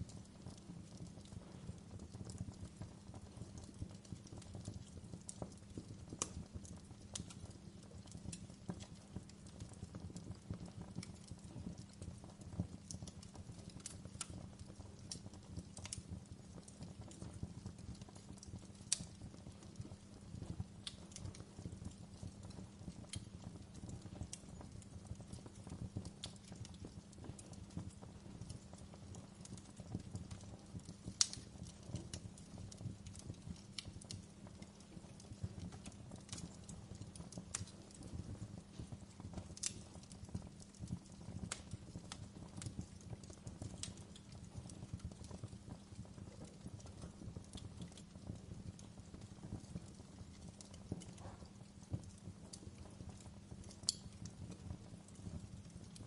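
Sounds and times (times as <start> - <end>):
campfire crackling and popping: 0.0 - 56.0
low rumble of flame: 0.0 - 56.0.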